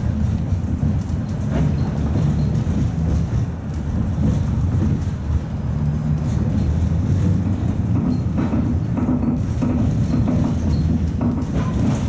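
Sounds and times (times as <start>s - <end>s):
tram wheels rumbling on track: 0.0s - 12.0s.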